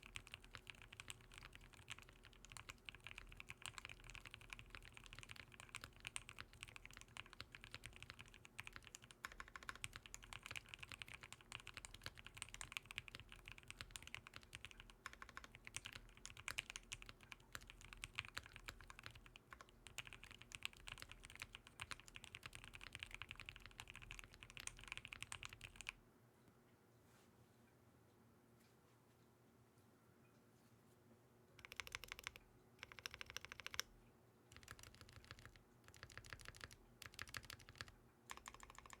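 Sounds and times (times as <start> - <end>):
mechanical keyboard typing: 0.0 - 26.0, 31.6 - 33.9, 34.5 - 39.0.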